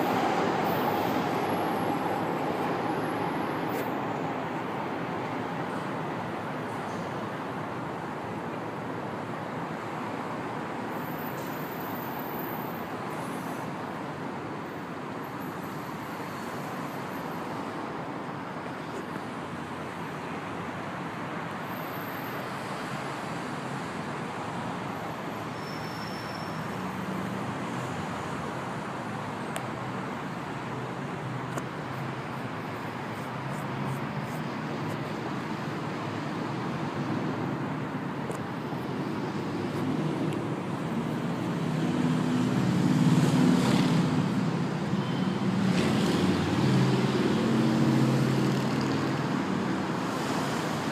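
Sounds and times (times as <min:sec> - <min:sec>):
traffic rumble and hiss: 0:00.0 - 0:50.9.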